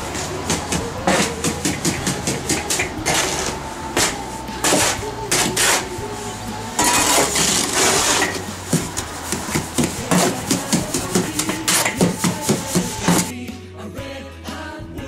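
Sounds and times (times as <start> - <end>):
shovel scraping render mix: 0.0 - 13.3.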